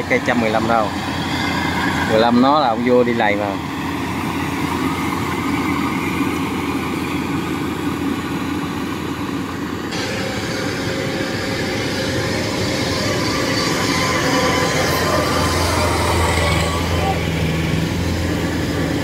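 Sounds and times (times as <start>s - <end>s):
combine harvester engine hum: 0.0s - 19.0s.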